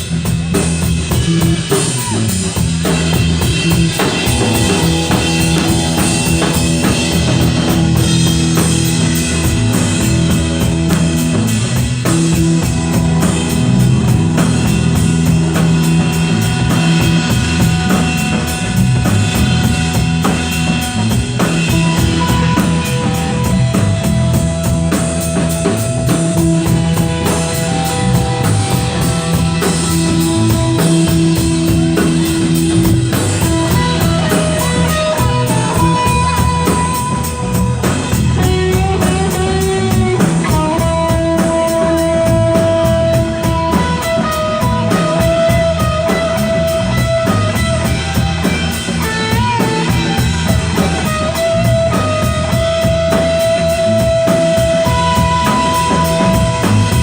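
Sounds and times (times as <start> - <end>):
drum kit pounding: 0.0 - 57.0
electric guitars holding notes: 0.0 - 57.0
live rock band playing: 0.0 - 57.0.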